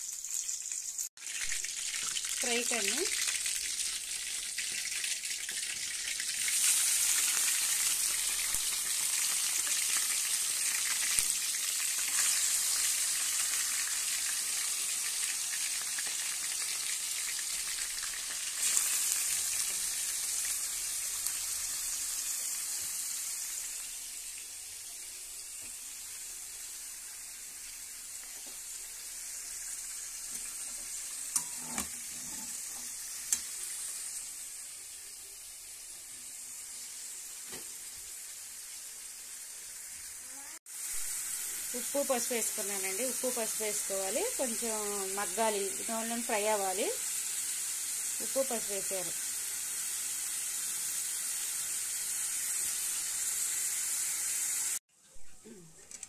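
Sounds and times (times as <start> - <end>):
chicken sizzling in hot oil: 0.0 - 54.9.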